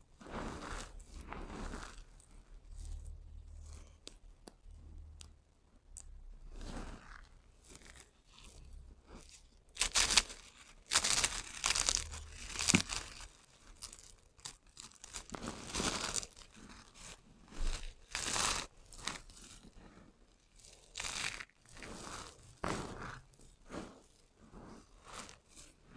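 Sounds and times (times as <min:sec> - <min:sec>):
soap shavings crunching: 0:00.2 - 0:04.1, 0:06.6 - 0:23.8, 0:24.9 - 0:25.6.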